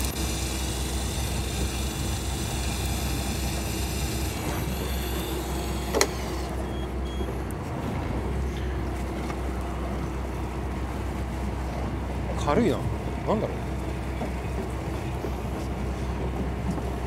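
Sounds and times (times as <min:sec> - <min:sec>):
boat engine humming: 0:00.0 - 0:17.0
high motor whine: 0:00.0 - 0:17.0.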